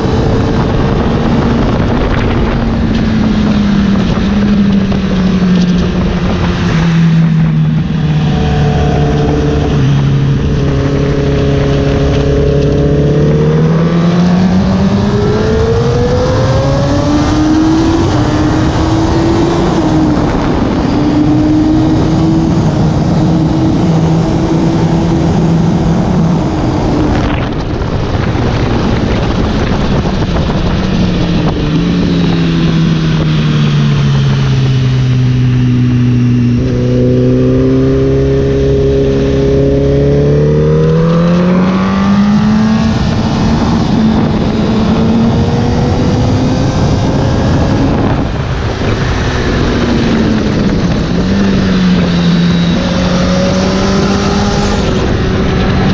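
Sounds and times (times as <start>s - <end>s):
motorcycle engine revving: 0.0s - 55.9s
wind rush: 0.0s - 55.9s.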